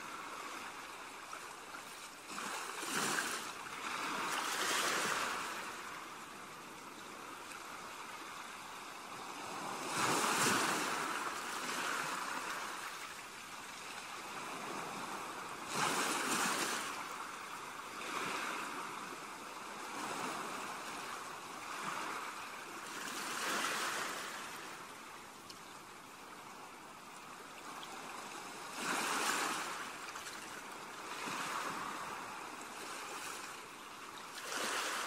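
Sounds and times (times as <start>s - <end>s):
sea waves washing onto shore: 0.0s - 35.0s.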